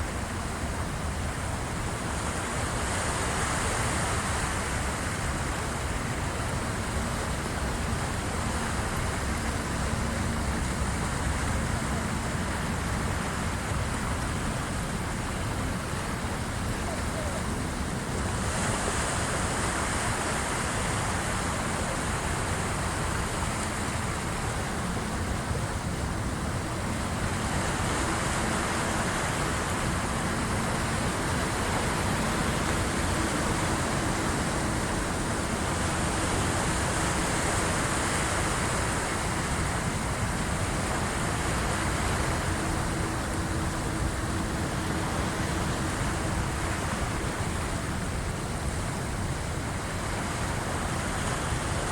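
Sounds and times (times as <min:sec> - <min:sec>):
waves washing against shore: 0:00.0 - 0:51.9.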